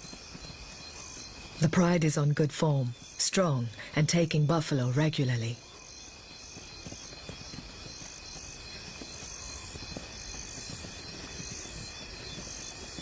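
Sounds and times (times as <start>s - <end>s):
high insect drone: 0.0s - 13.0s
insects chirping: 0.0s - 13.0s.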